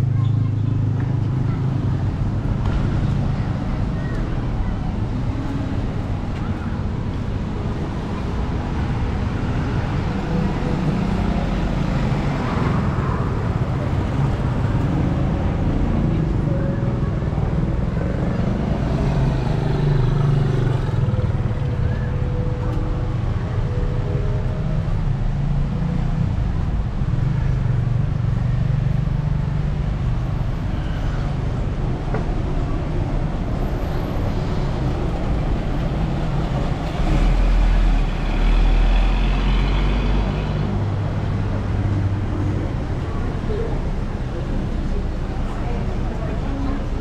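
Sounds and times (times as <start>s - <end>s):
bus passing close: 0.0s - 47.0s
vehicle engines running: 0.0s - 47.0s.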